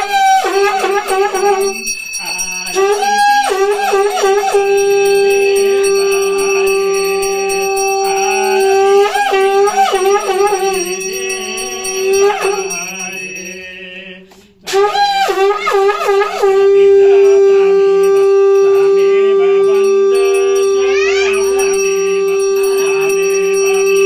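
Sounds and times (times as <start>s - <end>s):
conch shell blasts: 0.0s - 13.5s, 14.7s - 24.0s.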